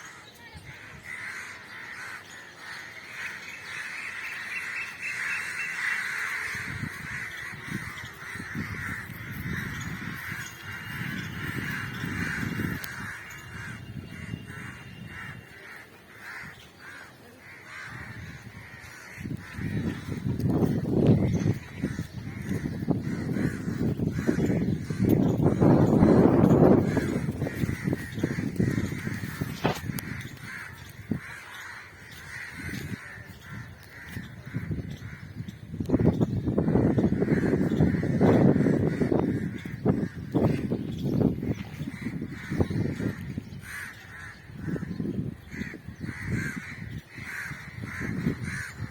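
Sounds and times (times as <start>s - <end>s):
birds chorus: 0.0s - 48.9s.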